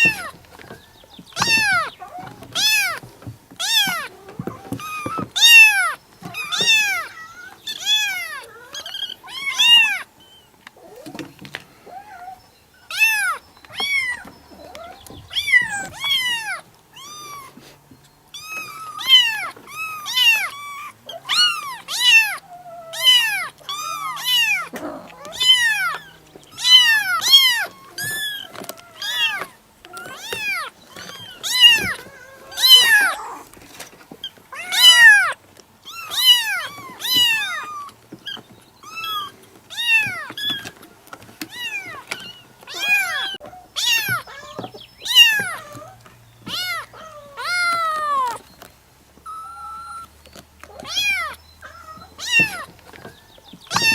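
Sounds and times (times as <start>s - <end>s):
kitten meowing: 1.4s - 3.0s, 3.6s - 10.1s, 12.8s - 17.6s, 18.4s - 33.4s, 34.5s - 40.8s, 41.4s - 48.4s, 50.7s - 52.8s, 53.7s - 53.9s.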